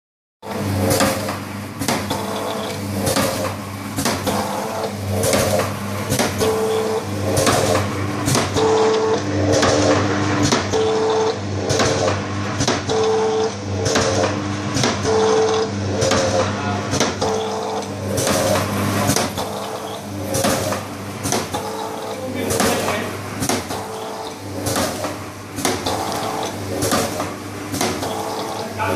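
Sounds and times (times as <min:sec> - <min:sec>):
motor hum: 0:00.4 - 0:28.9
machine clacking: 0:00.8 - 0:28.9.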